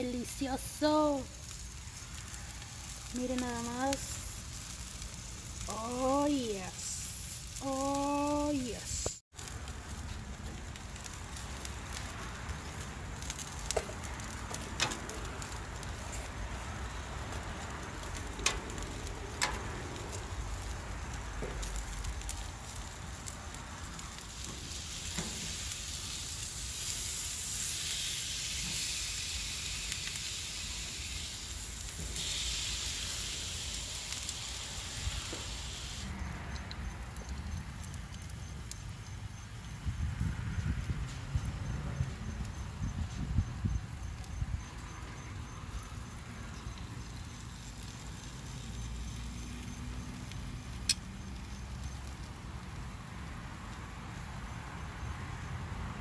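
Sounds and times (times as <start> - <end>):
steak sizzling on grill: 0.0 - 40.1, 42.4 - 56.0
sharp pops and ticks: 0.4 - 40.0, 45.6 - 55.4.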